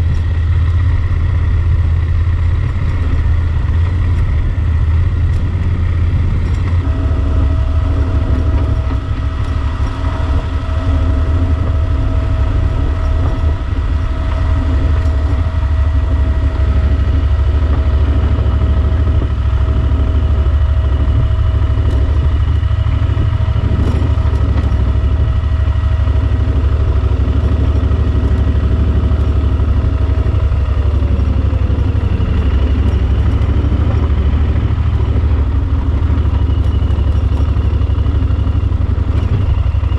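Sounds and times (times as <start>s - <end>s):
engine whine dropping in pitch: 0.0s - 39.9s
motorcycle engine low drone: 0.0s - 39.9s.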